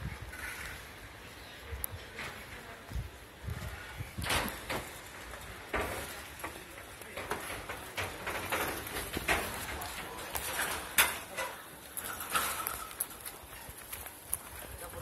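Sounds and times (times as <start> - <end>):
footsteps: 2.1 - 15.0.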